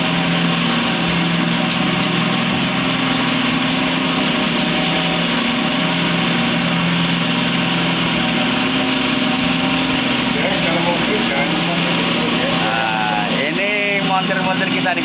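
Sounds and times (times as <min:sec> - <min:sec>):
cotton candy machine motor hum: 0:00.0 - 0:15.0.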